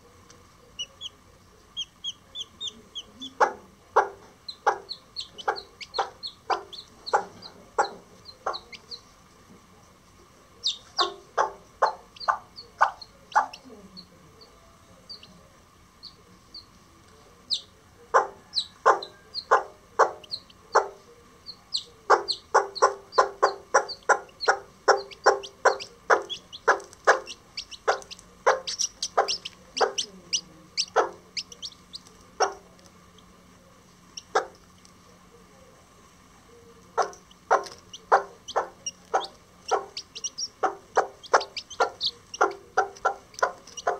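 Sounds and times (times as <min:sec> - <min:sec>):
chicks peeping: 0:00.0 - 0:09.3, 0:10.2 - 0:33.4, 0:34.0 - 0:35.0, 0:36.8 - 0:43.9
hen clucking: 0:00.6 - 0:09.2, 0:10.6 - 0:16.8, 0:17.4 - 0:33.3, 0:34.1 - 0:34.6, 0:36.9 - 0:43.9.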